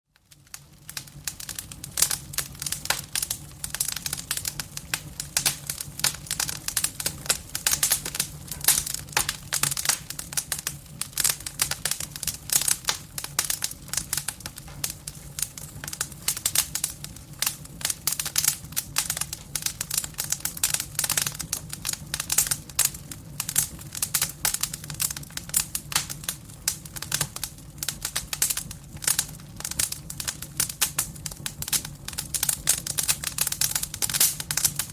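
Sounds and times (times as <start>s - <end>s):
fire crackling and popping: 0.1s - 34.9s.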